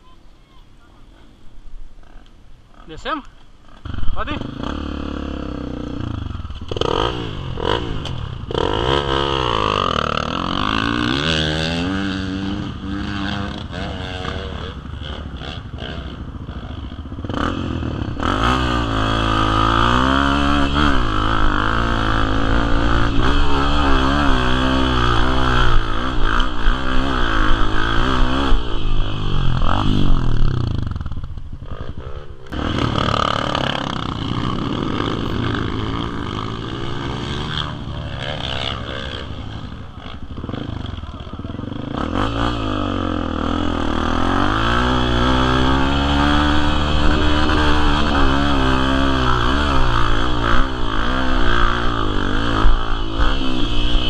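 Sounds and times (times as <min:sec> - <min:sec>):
engine revving: 0:03.7 - 0:54.0.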